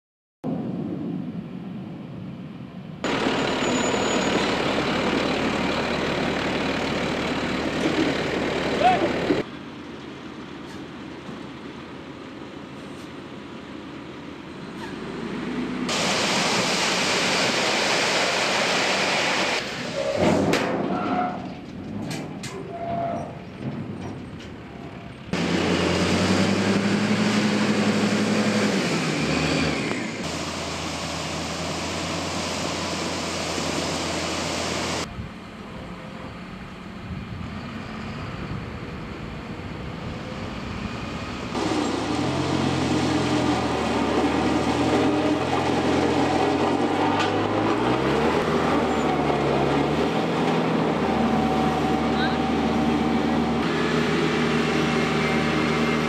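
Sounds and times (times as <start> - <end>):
heavy machine diesel engines: 0.5 - 56.0.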